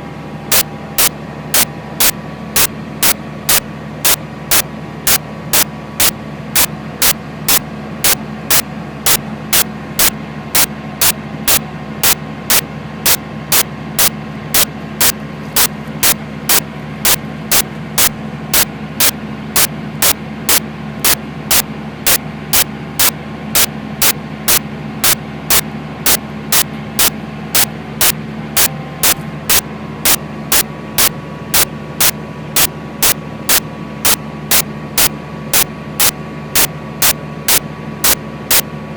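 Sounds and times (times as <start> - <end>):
tractor diesel engine running: 0.0 - 38.9
repeating sharp click: 0.5 - 38.7.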